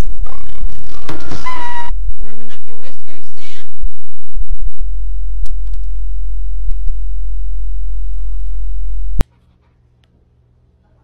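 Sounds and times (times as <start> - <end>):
loud low hum: 0.0 - 9.2.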